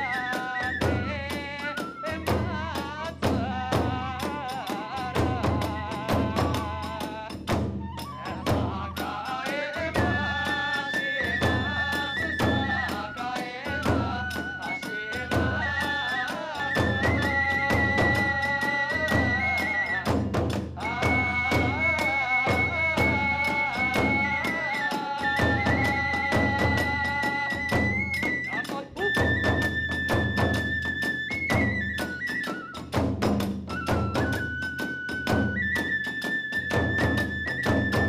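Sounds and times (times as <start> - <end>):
bamboo flute melody: 0.0 - 38.0
fast drum strikes: 0.0 - 38.0.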